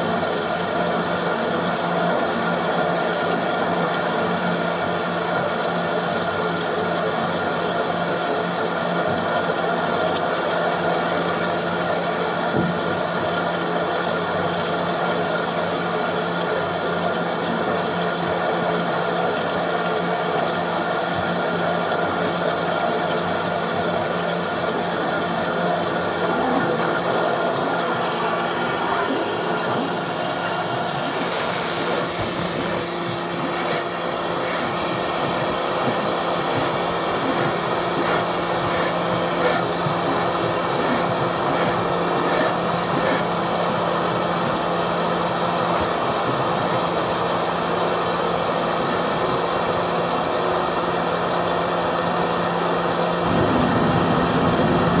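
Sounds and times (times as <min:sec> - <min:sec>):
water spraying hiss: 0:00.0 - 0:46.0, 0:53.2 - 0:55.0
drain jetter pump running: 0:00.0 - 0:55.0.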